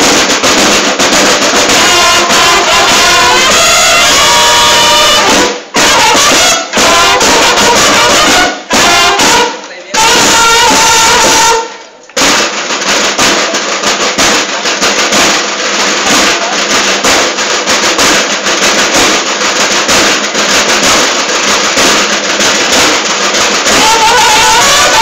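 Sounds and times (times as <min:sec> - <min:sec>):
bugles playing: 0:00.0 - 0:25.0
snare drums playing fast: 0:00.0 - 0:25.0.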